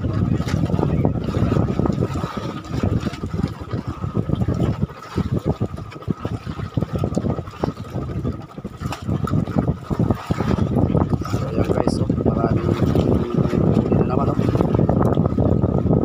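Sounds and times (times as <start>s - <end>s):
water lapping against boat hulls: 0.0s - 16.0s
wind buffeting microphone: 0.0s - 16.0s.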